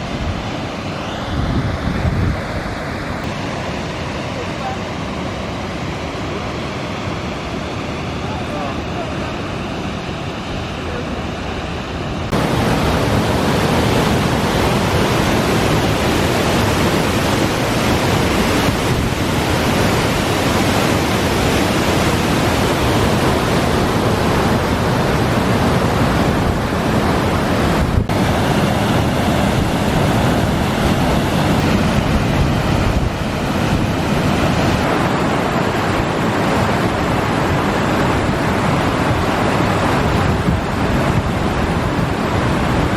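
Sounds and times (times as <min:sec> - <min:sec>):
wind buffeting microphone: 0:00.0 - 0:03.6, 0:12.0 - 0:42.9
water rushing over falls: 0:00.0 - 0:42.9.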